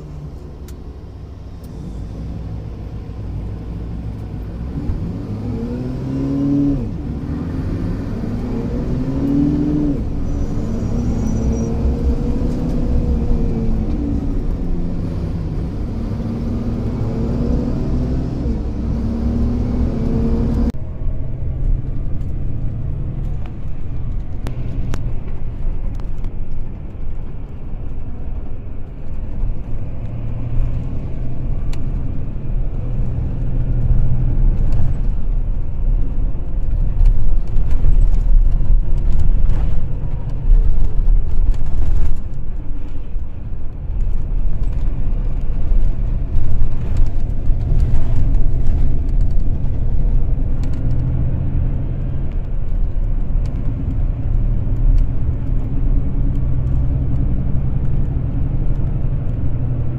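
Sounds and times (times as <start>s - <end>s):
low rumble: 0.0s - 59.9s
vehicle engine revving while driving: 0.0s - 59.9s.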